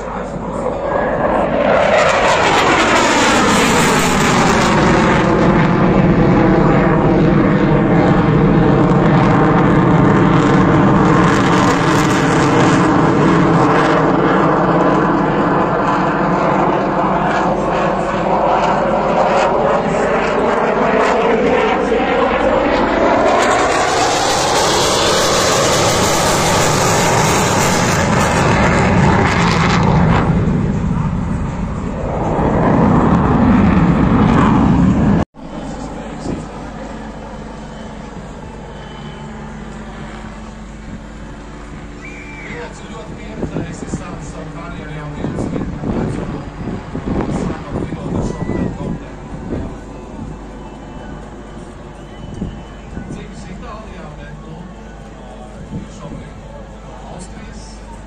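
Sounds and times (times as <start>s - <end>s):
fighter jet engine roar: 0.0s - 58.0s.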